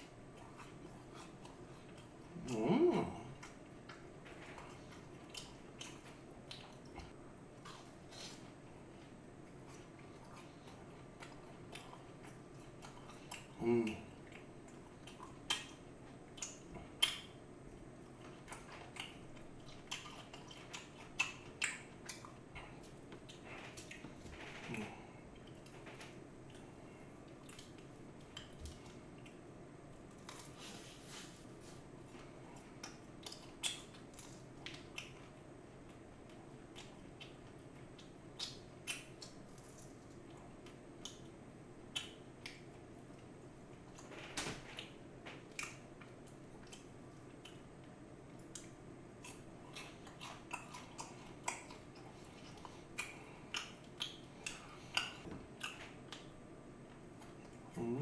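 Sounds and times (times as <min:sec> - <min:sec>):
steady low hum: 0:00.0 - 0:58.0
biting and chewing: 0:03.3 - 0:30.8, 0:32.0 - 0:56.4.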